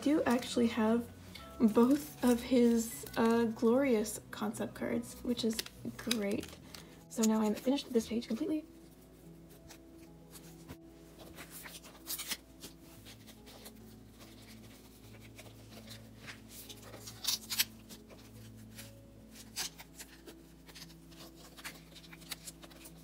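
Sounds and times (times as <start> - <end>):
plastic sleeves crinkling: 1.4 - 3.6, 5.1 - 23.0.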